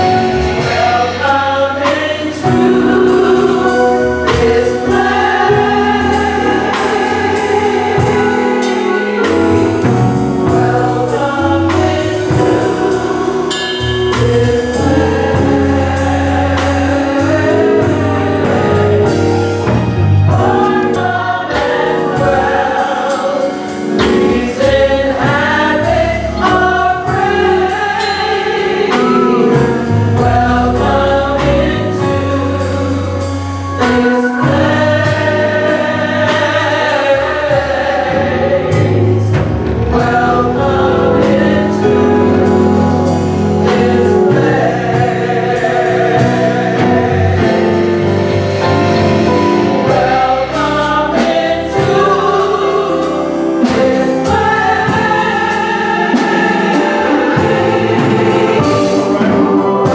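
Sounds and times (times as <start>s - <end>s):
gospel choir singing: 0.0s - 59.9s
instrumental backing with beat: 0.0s - 59.9s.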